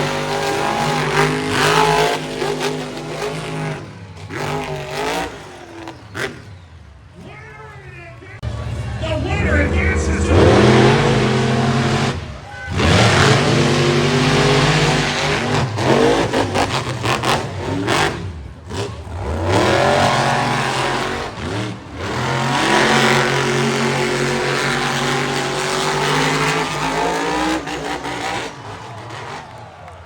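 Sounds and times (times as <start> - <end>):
truck engine revving: 0.0 - 7.3, 8.4 - 30.0.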